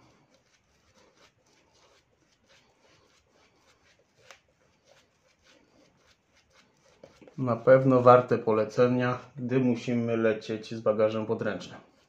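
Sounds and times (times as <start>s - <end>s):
shaving brush swishing lather: 0.0s - 12.0s.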